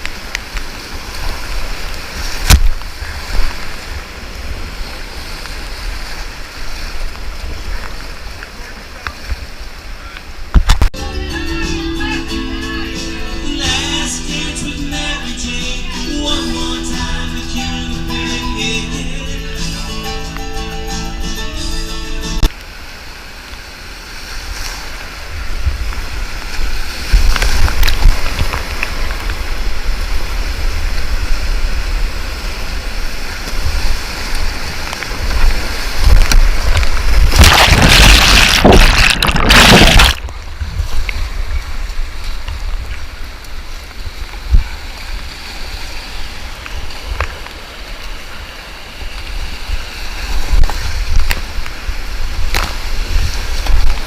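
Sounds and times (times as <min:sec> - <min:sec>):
whitewater rushing and splashing: 0:00.0 - 0:54.0.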